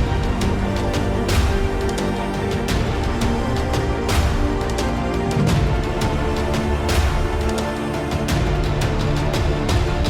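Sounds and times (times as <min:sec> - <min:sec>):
background music sustained notes: 0:00.0 - 0:10.0.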